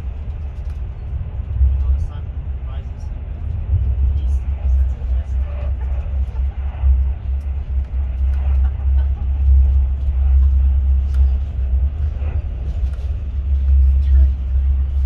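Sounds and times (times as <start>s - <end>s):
train rumbling from inside: 0.0s - 15.0s.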